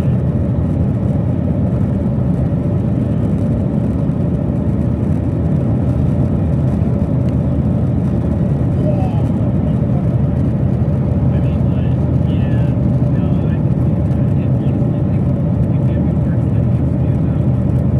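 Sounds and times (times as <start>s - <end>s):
aircraft cabin low rumble: 0.0s - 17.9s.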